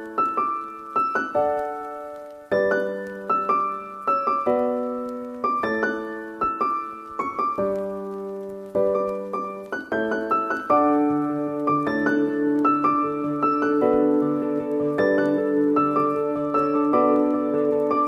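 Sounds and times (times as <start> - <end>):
calm solo piano piece: 0.0 - 18.0.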